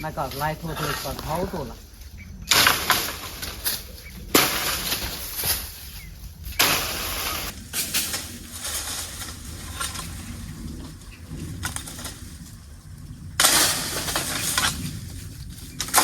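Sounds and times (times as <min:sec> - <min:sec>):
leaves thrashing: 0:00.0 - 0:16.0
twigs crackling and snapping: 0:00.0 - 0:16.0.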